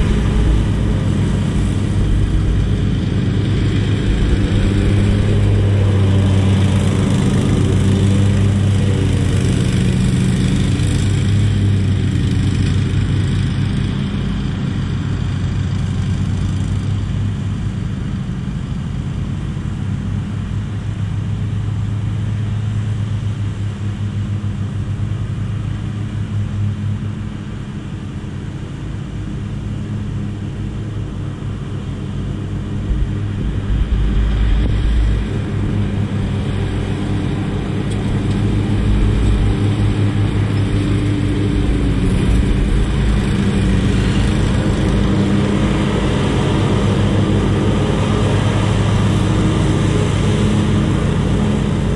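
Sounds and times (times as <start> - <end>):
riding mower engine running: 0.0 - 51.9.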